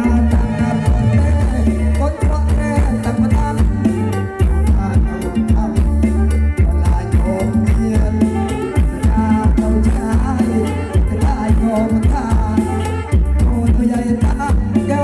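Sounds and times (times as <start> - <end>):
loud music with heavy bass: 0.0 - 15.0
steady drum beat: 0.0 - 15.0.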